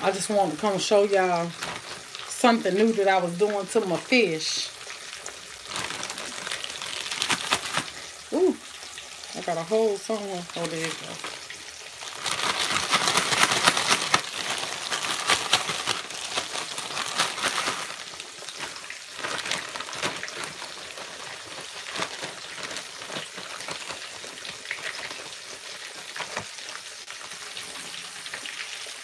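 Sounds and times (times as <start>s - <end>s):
plastic bags rustling: 0.0s - 28.0s
fish deep-frying sizzling: 0.0s - 29.0s.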